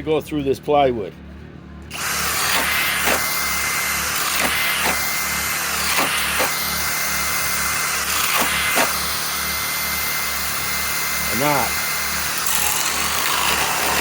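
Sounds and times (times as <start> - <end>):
hammer drill boring into wood: 1.9 - 14.0.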